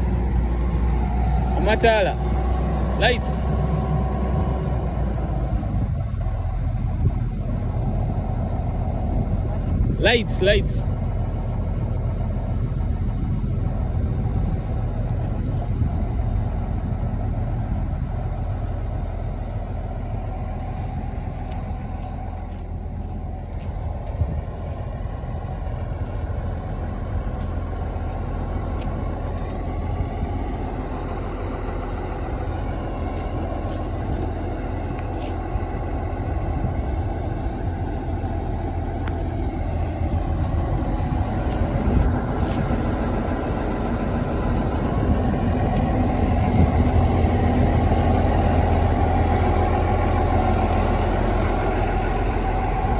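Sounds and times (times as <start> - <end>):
excavator engine running: 0.0 - 52.9.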